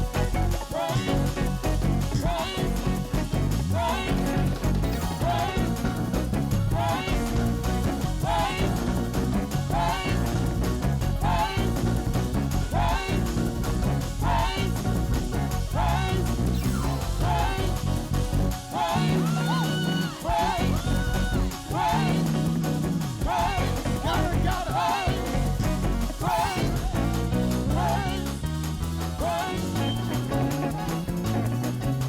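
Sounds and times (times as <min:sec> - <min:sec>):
up-tempo gospel music: 0:00.0 - 0:32.0.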